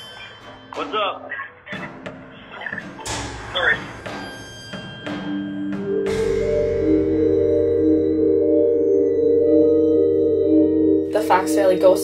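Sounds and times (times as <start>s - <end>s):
ambient music of held tones: 0.0s - 12.0s.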